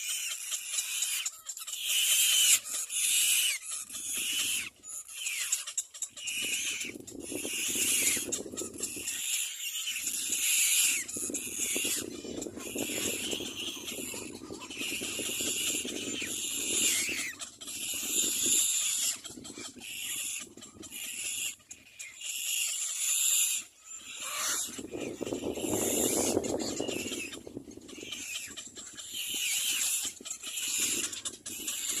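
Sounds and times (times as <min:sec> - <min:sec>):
bird chicks calling raspily: 0:00.0 - 0:32.0.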